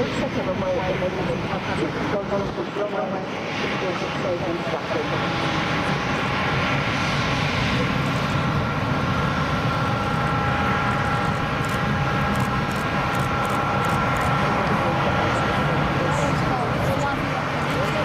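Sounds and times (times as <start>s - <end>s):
airliner engines rushing and whining: 0.0s - 18.0s.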